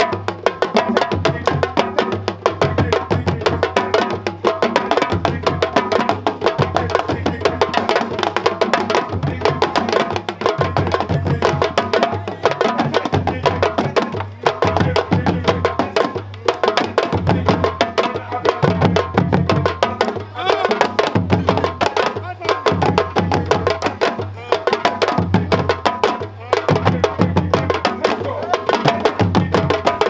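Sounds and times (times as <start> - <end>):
drum ensemble playing fast rhythm: 0.0 - 30.0.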